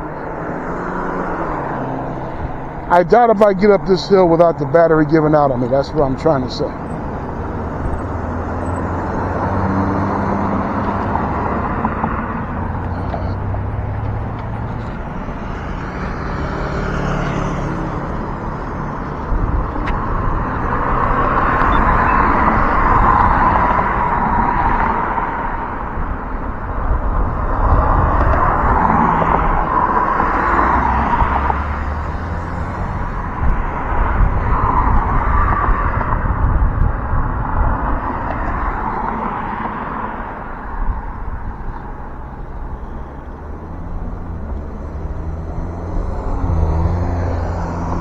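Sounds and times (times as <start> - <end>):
wind rumbling on microphone: 0.0 - 4.7, 5.5 - 48.0
cars passing: 0.0 - 48.0
road traffic: 0.0 - 48.0.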